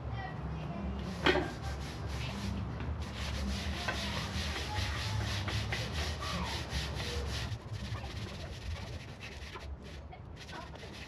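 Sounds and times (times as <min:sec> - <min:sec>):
hand rubbing strokes: 0:01.0 - 0:11.0.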